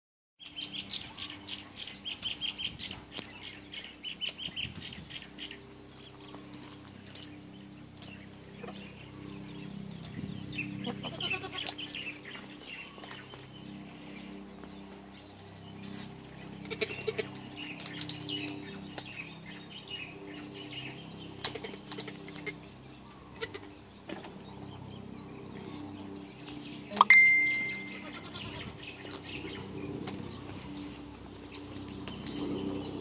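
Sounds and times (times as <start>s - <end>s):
steady low hum: 0.4s - 33.0s.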